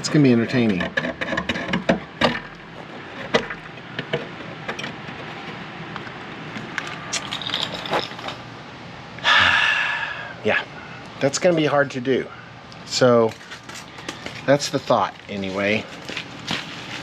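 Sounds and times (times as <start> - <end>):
steady background hiss: 1.8 - 17.0.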